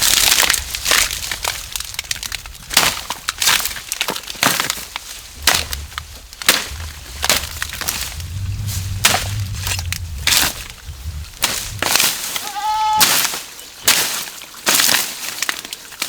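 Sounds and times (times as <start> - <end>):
sharp cracks and crunches: 0.0 - 16.0.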